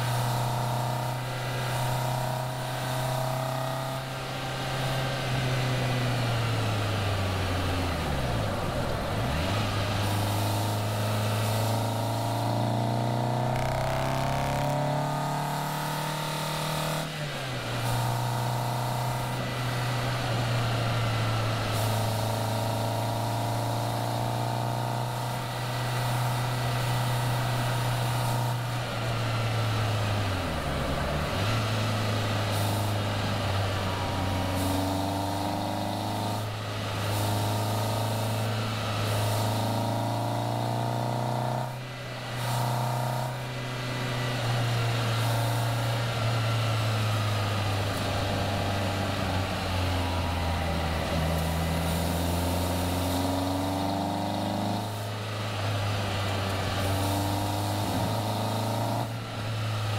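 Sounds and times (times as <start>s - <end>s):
car engine pulling hard: 0.0s - 59.9s.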